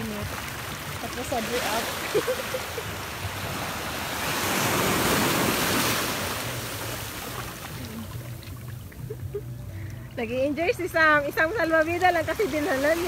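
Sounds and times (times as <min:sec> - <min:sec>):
sea wave washing ashore: 0:00.0 - 0:08.8, 0:10.2 - 0:13.0.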